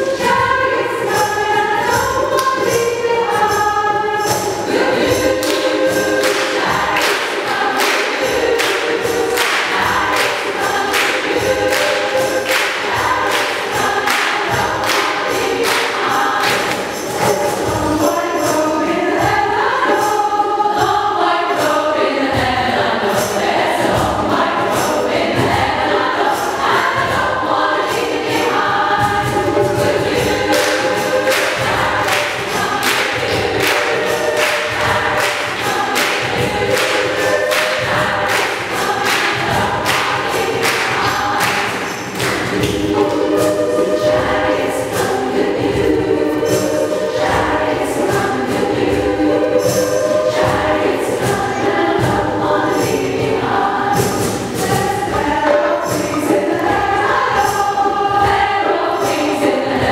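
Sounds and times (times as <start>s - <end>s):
choir singing in parts: 0.0s - 59.9s
steady percussive beat: 0.0s - 59.9s.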